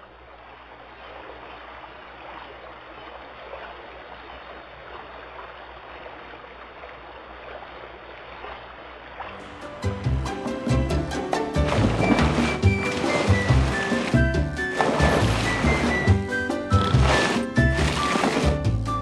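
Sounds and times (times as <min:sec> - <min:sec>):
running bubbling water: 0:00.0 - 0:18.8.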